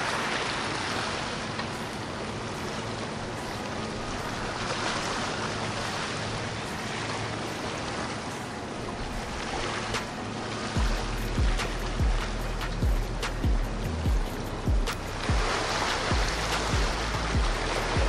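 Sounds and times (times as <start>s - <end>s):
motorboat engine hum: 0.0s - 18.0s
water rushing and splashing: 0.0s - 18.0s.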